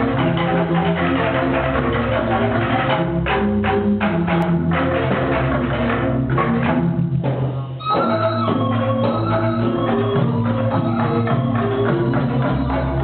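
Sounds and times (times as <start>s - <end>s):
gamelan music: 0.0s - 13.0s.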